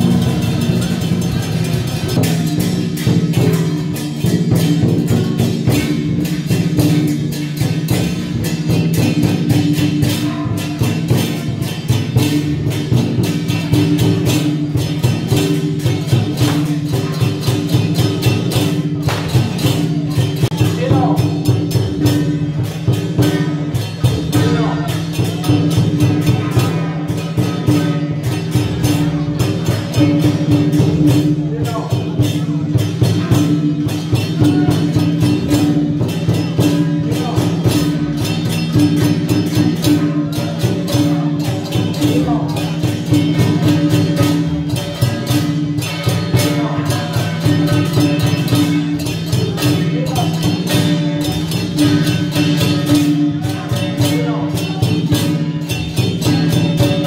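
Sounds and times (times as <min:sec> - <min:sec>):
drums and cymbals beating: 0:00.0 - 0:57.0.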